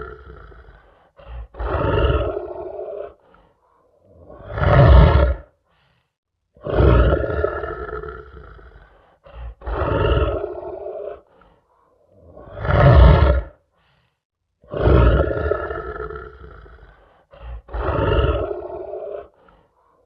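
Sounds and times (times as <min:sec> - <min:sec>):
lion roaring: 0:00.0 - 0:05.5, 0:06.6 - 0:13.6, 0:14.6 - 0:20.0
lion grunt: 0:00.0 - 0:05.6, 0:06.6 - 0:13.6, 0:14.6 - 0:20.0.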